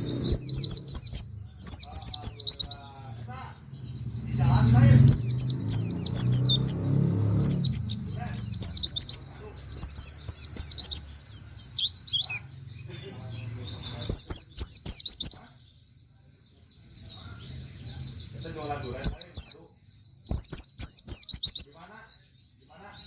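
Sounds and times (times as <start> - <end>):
bird singing rapid high notes: 0.0 - 23.0.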